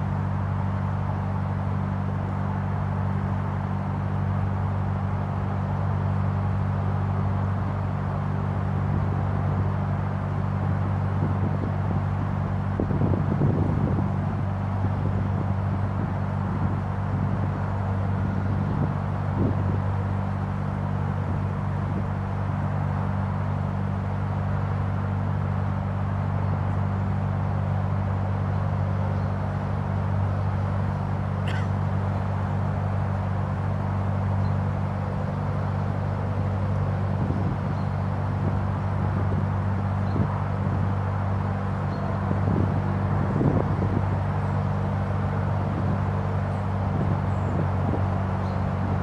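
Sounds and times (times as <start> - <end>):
diesel engine droning: 0.0 - 49.0.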